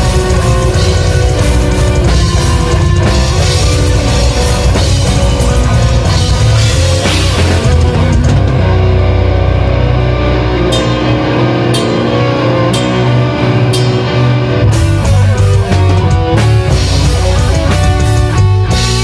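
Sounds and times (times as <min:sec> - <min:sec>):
fast guitar riff: 0:00.0 - 0:19.0
metal band playing: 0:00.0 - 0:19.0.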